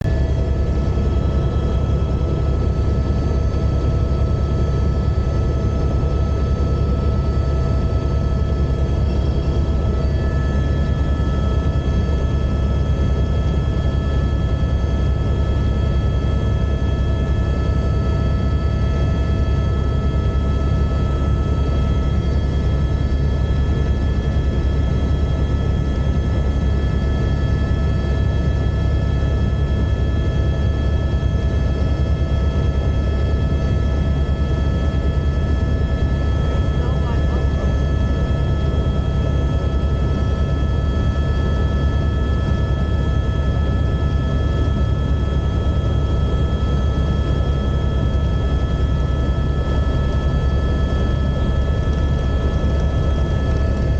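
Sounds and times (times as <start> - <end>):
helicopter droning in flight: 0.0 - 53.9.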